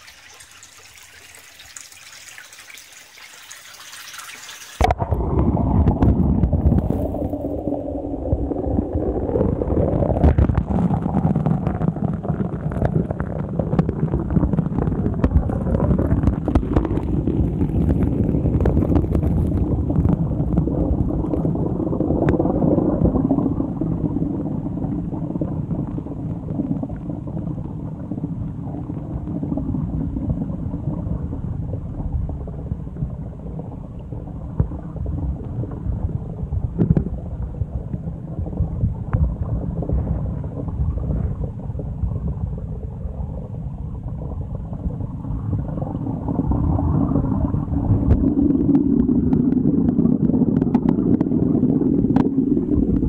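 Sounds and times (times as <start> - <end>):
muffled underwater rumble and gurgle: 4.8 - 53.0.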